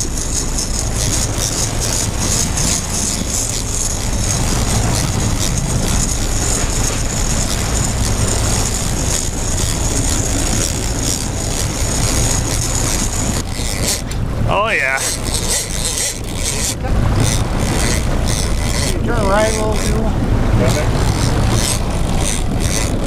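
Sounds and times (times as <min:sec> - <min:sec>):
boat engine drone: 0:00.0 - 0:23.0
water rushing past hull: 0:00.0 - 0:23.0
wind buffeting microphone: 0:00.0 - 0:23.0.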